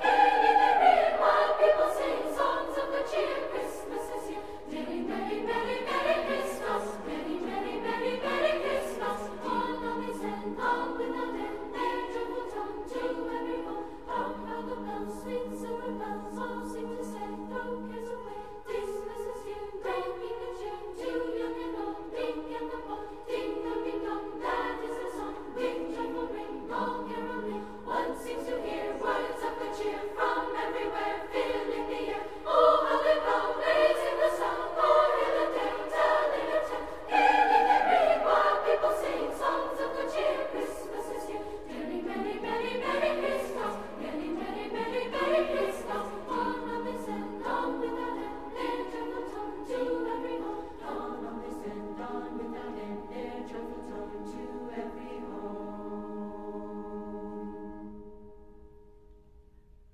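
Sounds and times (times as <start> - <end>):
choir singing a cappella: 0.0 - 58.7.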